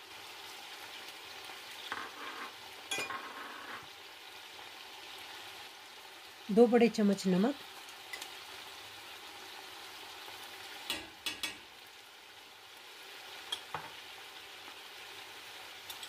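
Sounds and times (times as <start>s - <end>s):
food frying in oil: 0.0s - 16.0s.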